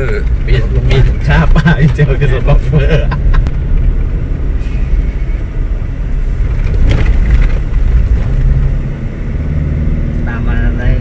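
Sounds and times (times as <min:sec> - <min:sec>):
vehicle rumbling on rough road: 0:00.0 - 0:11.0.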